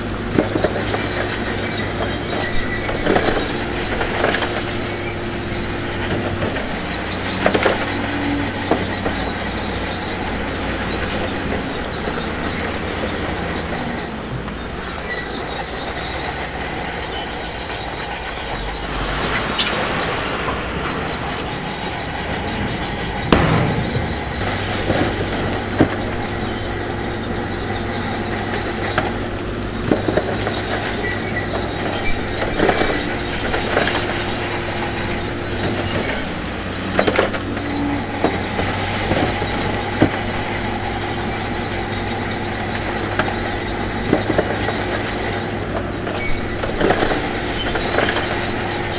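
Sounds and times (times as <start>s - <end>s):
diesel machinery running: 0.0s - 48.9s
metallic clanks and squeals: 0.0s - 48.9s.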